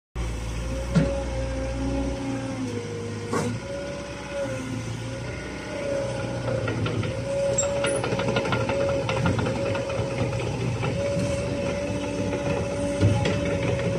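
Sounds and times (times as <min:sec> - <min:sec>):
diesel engine hum: 0:00.2 - 0:13.9
hydraulic whine: 0:00.3 - 0:13.9.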